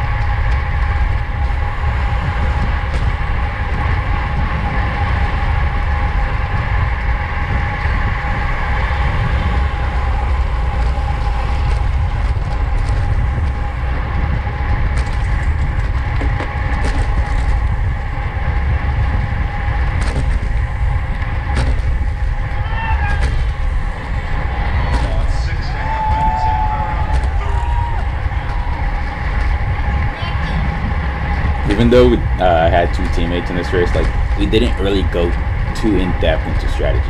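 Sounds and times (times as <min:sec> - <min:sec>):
constant hum: 0:00.0 - 0:37.0
wind rushing over microphone: 0:00.0 - 0:37.0.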